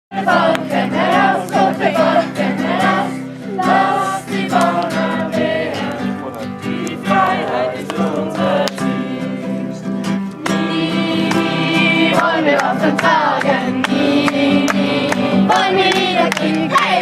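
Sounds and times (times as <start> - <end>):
group of voices singing: 0.1 - 17.0.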